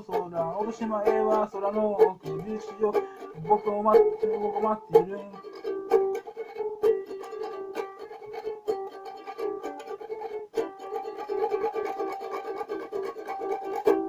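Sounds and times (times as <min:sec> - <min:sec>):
ukulele plucking and strumming: 0:00.0 - 0:14.0.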